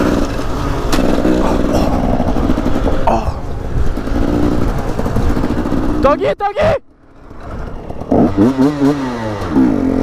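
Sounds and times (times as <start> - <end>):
dirt bike engine: 0.0 - 10.0.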